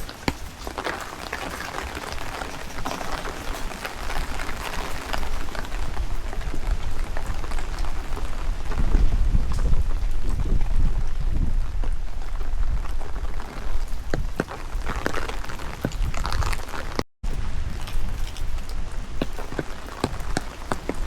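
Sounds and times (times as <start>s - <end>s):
heavy rain falling: 0.0s - 21.0s
raindrops ticking close by: 0.0s - 21.0s.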